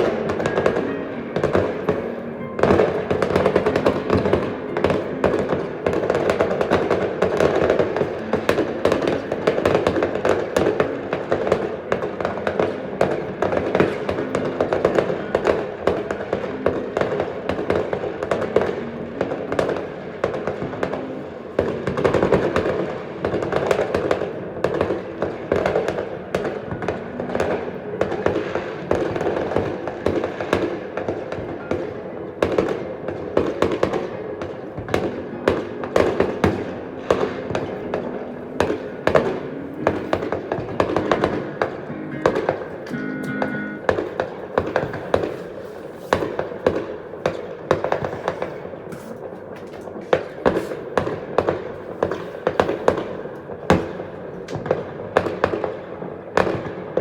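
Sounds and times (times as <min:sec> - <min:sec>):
fireworks popping and crackling: 0:00.0 - 0:57.0.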